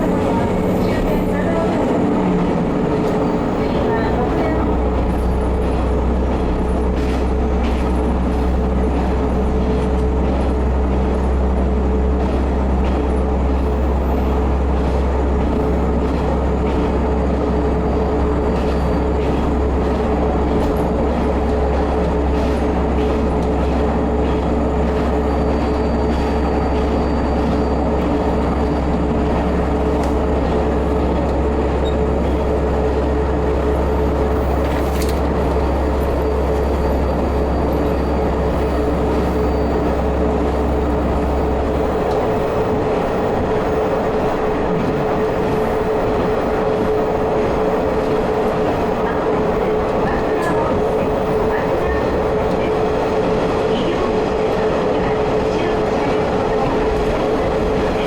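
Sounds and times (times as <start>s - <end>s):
railcar engine drone: 0.0s - 58.0s.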